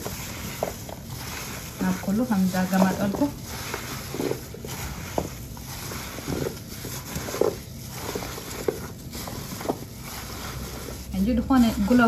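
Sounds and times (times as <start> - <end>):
gloved hand squelching food: 0.0 - 12.0.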